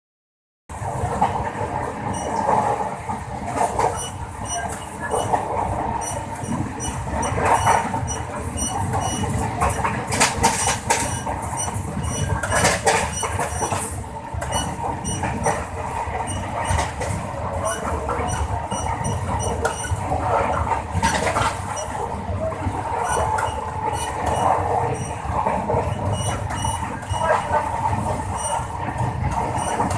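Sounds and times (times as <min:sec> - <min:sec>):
train coach rattling: 0:00.7 - 0:29.9
train wheels rumbling on track: 0:00.7 - 0:29.9
clacks over rail joints: 0:01.1 - 0:29.9.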